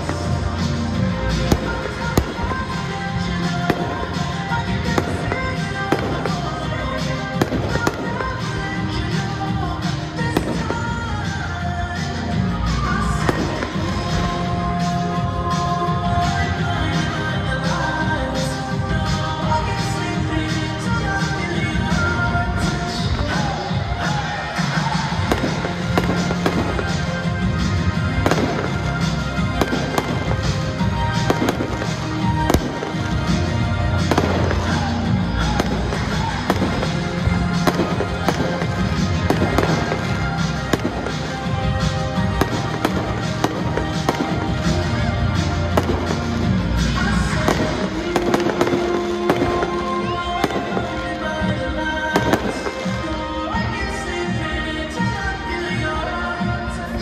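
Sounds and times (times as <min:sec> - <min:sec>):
fireworks bangs and crackles: 0:00.0 - 0:54.4
music playing: 0:00.0 - 0:57.0.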